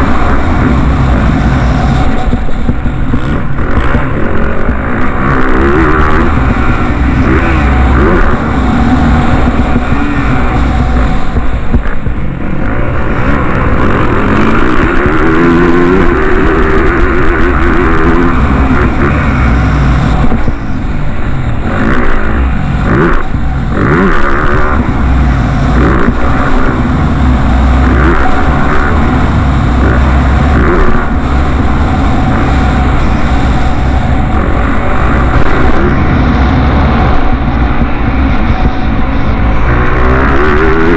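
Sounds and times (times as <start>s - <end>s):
motorbike engines revving: 0.0s - 40.9s.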